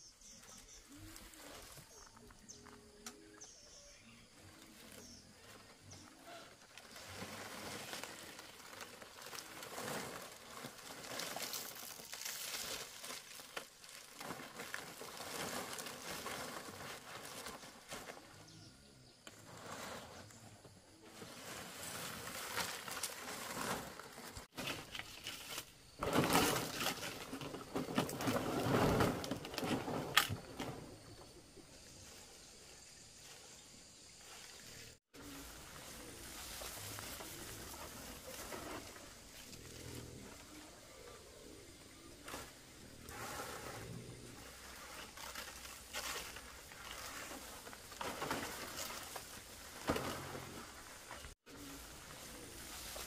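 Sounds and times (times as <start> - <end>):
palm leaves rustling and crinkling: 0.0 - 53.0.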